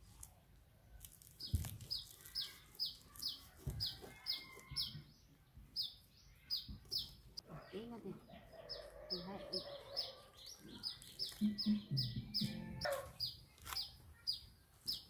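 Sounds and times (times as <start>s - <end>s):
small bird chirping: 0.9s - 15.0s.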